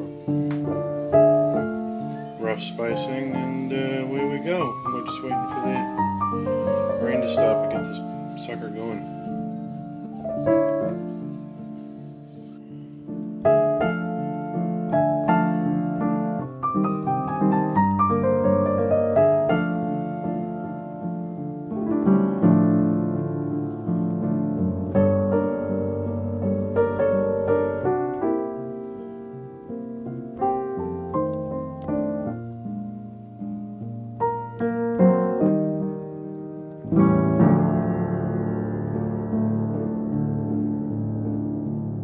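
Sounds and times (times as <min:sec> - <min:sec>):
slow piano music: 0:00.0 - 0:42.0.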